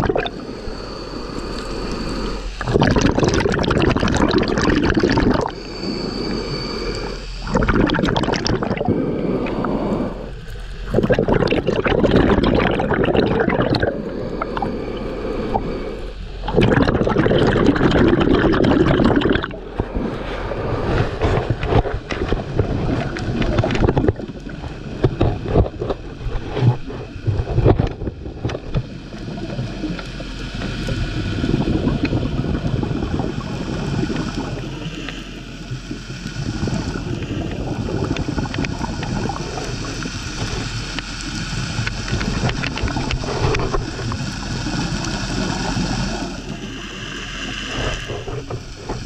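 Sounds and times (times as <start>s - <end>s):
diver breathing bubbles underwater: 0.0s - 49.0s.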